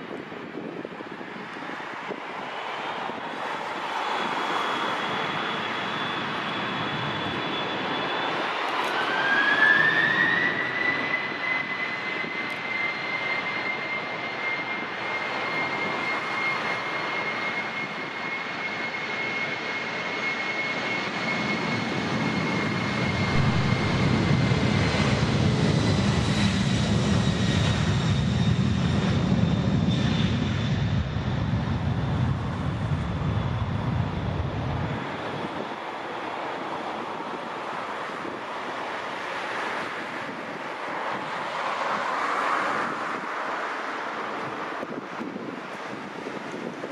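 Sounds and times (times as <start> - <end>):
deep jet engine rumble: 0.0 - 46.9
jet engine whine: 0.0 - 46.9.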